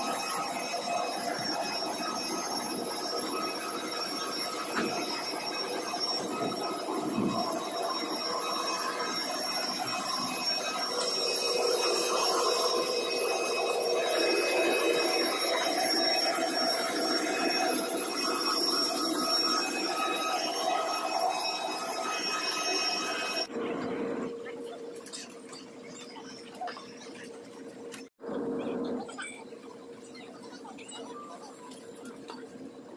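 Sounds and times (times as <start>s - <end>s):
jet aircraft whine and roar: 0.0s - 32.9s.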